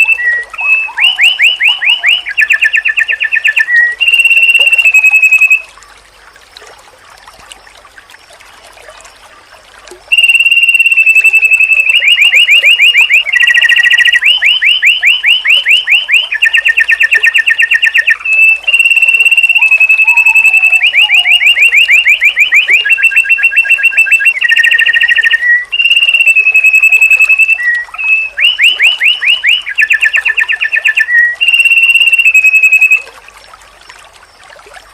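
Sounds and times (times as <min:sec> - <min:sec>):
bird whistles and trills: 0:00.0 - 0:05.7, 0:10.1 - 0:33.2.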